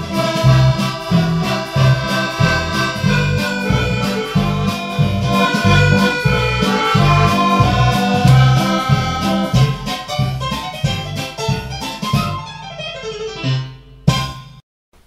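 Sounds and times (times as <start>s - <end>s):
instrumental background music: 0.0s - 14.6s.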